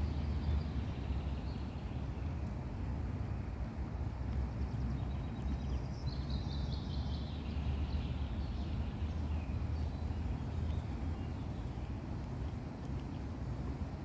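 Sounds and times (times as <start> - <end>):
songbird trill: 0.0 - 2.6, 4.0 - 13.4.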